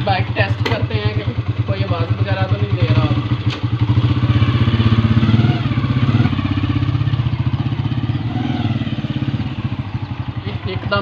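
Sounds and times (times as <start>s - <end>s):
motorcycle engine riding off: 0.0s - 11.0s.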